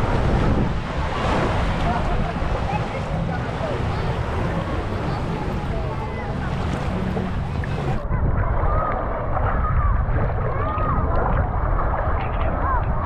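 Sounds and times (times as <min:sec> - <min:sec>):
faint distant voices: 0:00.0 - 0:13.0
surf: 0:00.0 - 0:13.0
wind buffeting microphone: 0:00.0 - 0:13.0.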